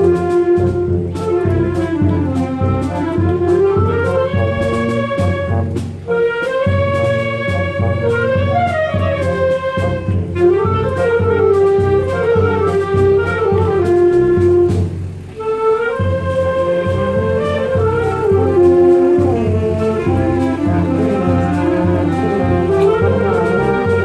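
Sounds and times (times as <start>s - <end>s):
wind band playing: 0.0s - 24.0s.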